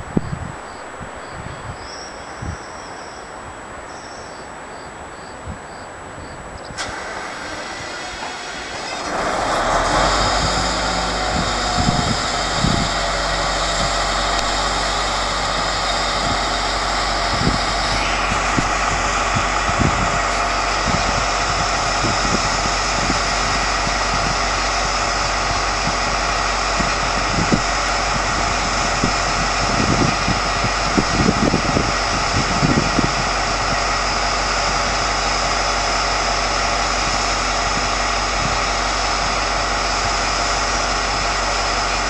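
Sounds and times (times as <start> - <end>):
locomotive diesel engine idling: 6.8 - 42.0.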